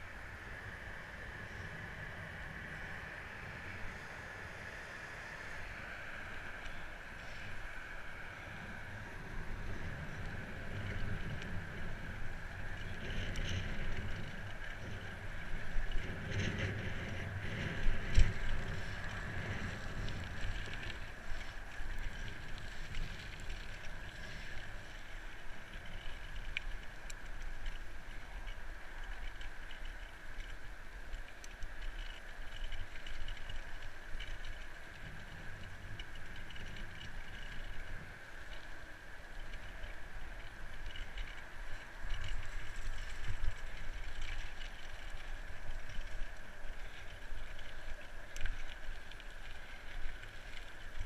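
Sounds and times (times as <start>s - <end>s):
bicycle tyre noise: 0.0s - 51.0s
wind on microphone: 0.0s - 51.0s.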